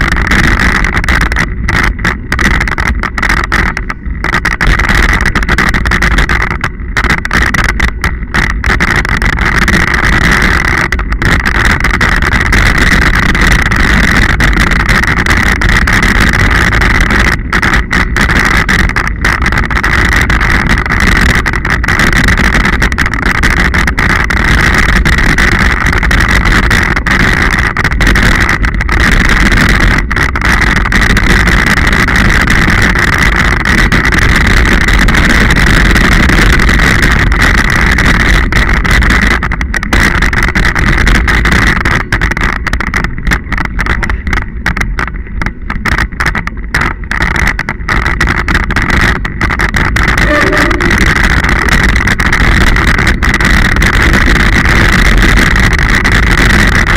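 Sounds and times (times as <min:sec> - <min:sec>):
tyres rumbling on rough ground: 0:00.0 - 0:56.9
wind on microphone: 0:00.0 - 0:56.9.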